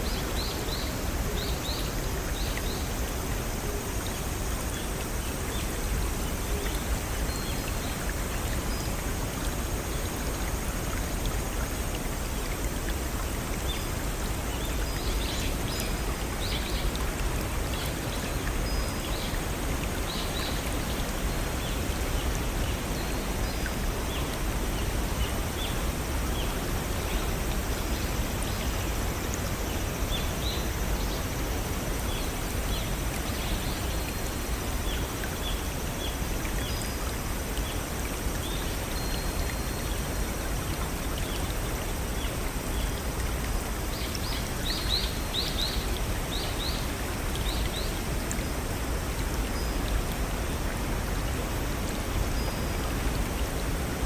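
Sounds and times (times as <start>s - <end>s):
waterfall and brook flowing: 0.0s - 54.0s.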